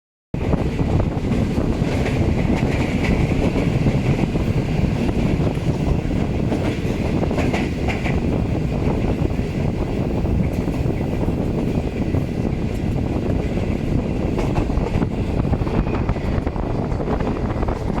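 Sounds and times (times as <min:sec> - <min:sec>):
train wheels rumbling on rail: 0:00.4 - 0:18.0.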